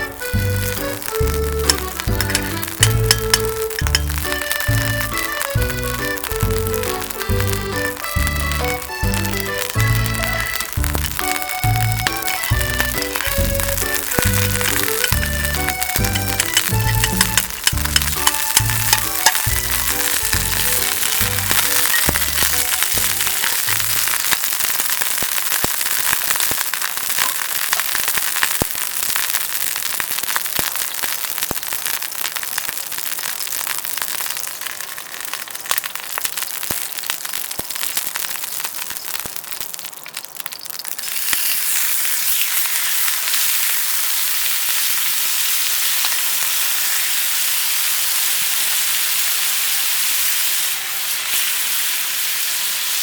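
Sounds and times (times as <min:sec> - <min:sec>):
food sizzling on grill: 0:00.0 - 0:53.0
wood fire crackling and popping: 0:00.0 - 0:53.0.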